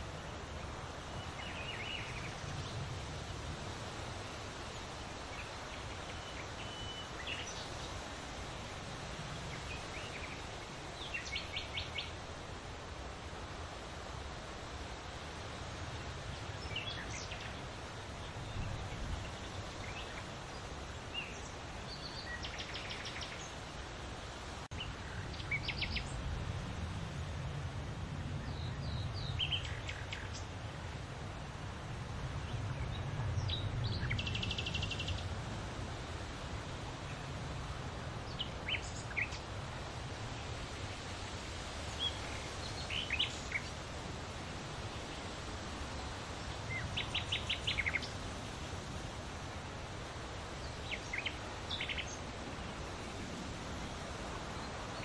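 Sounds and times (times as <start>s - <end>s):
songbirds chirping and trilling: 0.0s - 27.2s, 28.2s - 31.0s, 31.8s - 55.0s
leaves rustling in wind: 0.0s - 55.0s.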